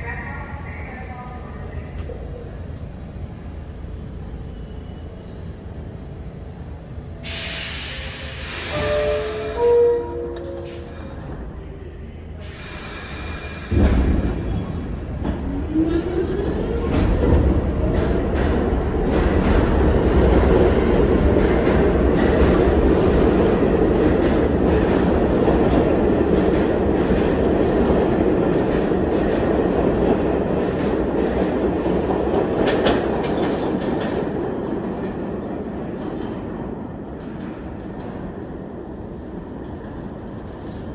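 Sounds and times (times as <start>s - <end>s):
subway train passing: 0.0s - 40.9s.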